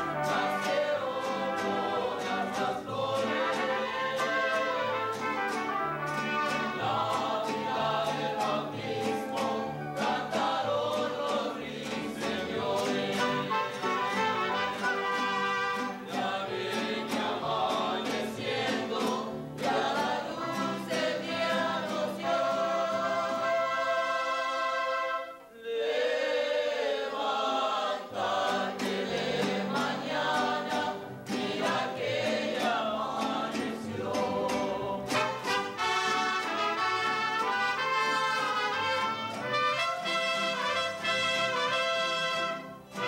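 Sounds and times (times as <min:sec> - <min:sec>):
guitars and violins: 0:00.0 - 0:25.5, 0:28.0 - 0:43.0.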